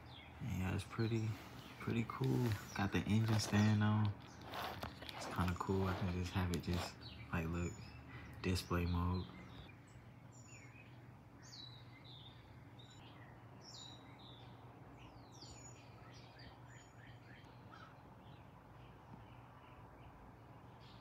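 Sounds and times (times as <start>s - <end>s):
faint birdsong: 0.0s - 21.0s
low steady hum: 0.0s - 21.0s.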